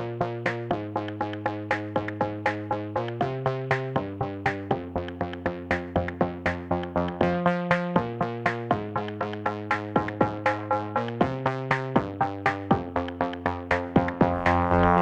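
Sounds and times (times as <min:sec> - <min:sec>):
electronic music with synthesizer: 0:00.0 - 0:15.0.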